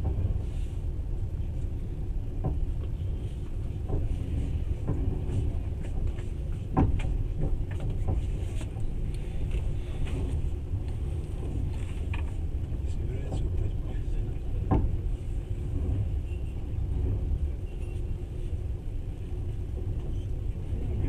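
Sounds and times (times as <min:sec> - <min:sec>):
train knocks and clacks: 0:00.0 - 0:21.0
train rumble inside carriage: 0:00.0 - 0:21.0.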